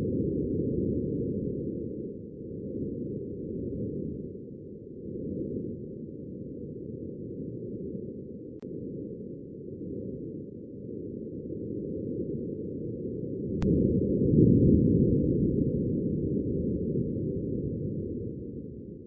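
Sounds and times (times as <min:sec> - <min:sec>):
muffled wind rush: 0:00.0 - 0:19.0.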